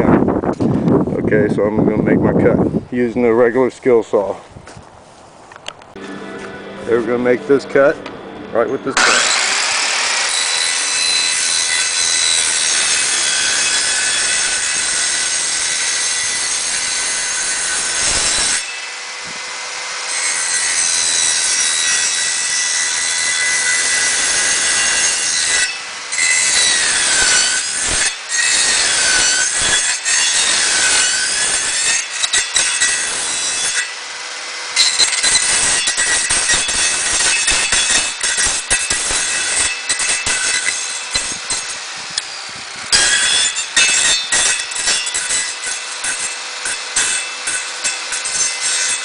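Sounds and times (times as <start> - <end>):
circular saw cutting: 6.0 - 49.0.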